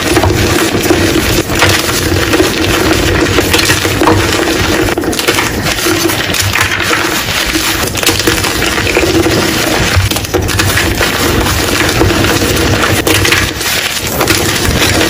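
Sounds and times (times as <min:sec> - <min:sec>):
chalk blocks crunching: 0:00.0 - 0:15.0.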